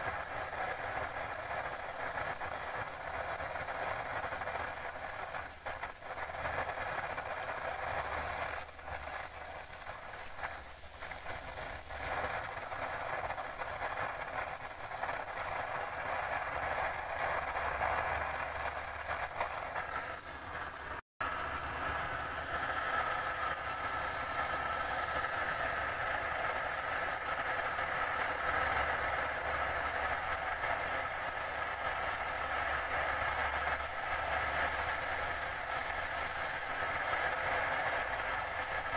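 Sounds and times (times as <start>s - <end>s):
gas torch hissing: 0.0s - 38.9s.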